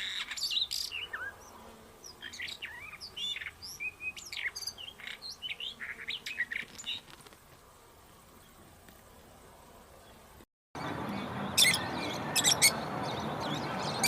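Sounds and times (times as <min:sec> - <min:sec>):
songbirds singing and chirping: 0:00.0 - 0:07.2, 0:08.0 - 0:14.0.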